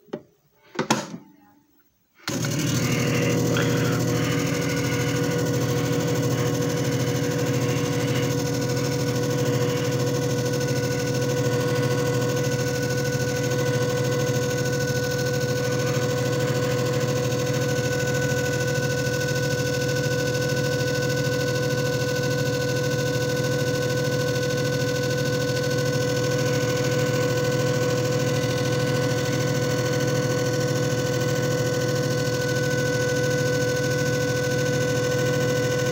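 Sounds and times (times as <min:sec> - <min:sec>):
mid-pitched whine: 0:00.0 - 0:35.9
disc repair machine hum: 0:02.2 - 0:35.9.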